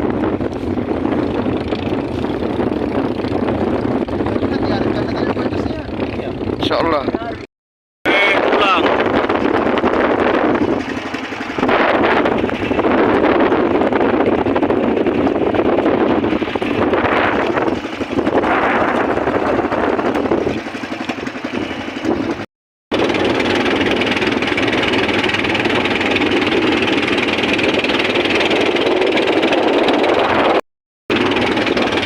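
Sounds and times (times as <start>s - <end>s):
boat engine running: 0.0s - 7.5s, 8.1s - 32.0s.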